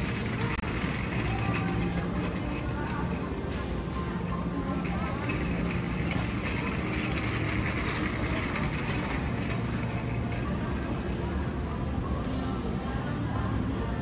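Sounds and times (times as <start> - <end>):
cart wheels rolling on tiles: 0.0 - 12.2.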